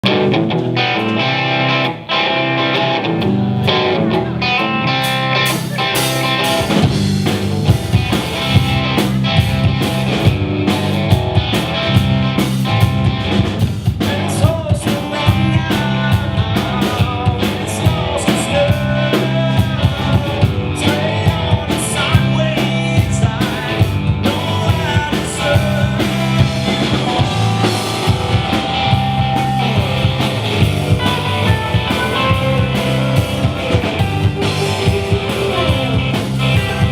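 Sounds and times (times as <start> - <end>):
bass: 0.0 - 36.9
electric guitar: 0.0 - 36.9
drum kit beat: 2.7 - 36.9.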